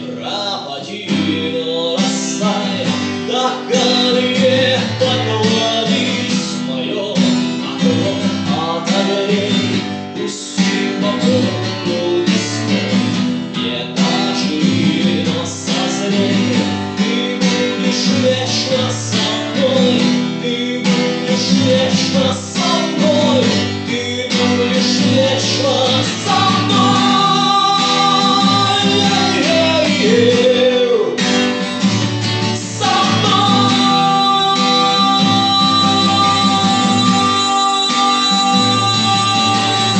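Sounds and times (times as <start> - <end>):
plucked acoustic guitar music: 0.0 - 39.9.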